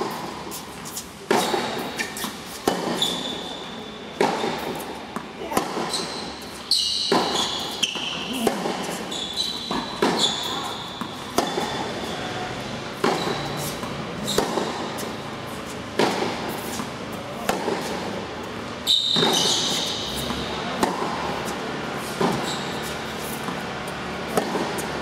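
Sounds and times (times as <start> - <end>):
tennis ball hitting rackets: 0.0 - 3.6, 4.2 - 25.0
shoes squeaking on court: 0.0 - 25.0.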